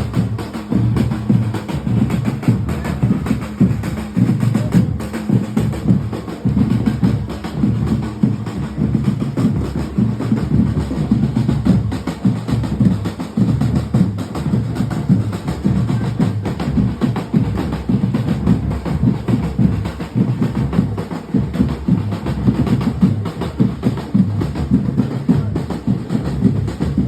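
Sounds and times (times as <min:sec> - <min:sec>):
music with low drumming: 0:00.0 - 0:27.0.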